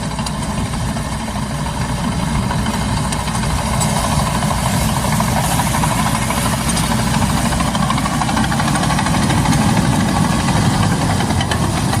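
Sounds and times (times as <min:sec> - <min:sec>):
bulldozer diesel engine knocking: 0:00.0 - 0:12.0.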